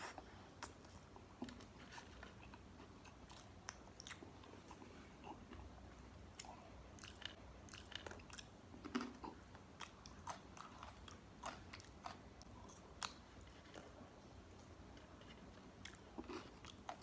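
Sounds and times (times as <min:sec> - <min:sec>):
person chewing crispy food: 0:00.6 - 0:14.0, 0:14.6 - 0:17.0.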